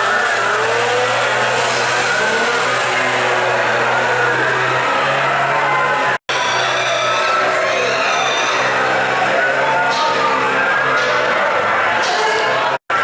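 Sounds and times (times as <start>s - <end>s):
chainsaw engines running: 0.0s - 13.0s.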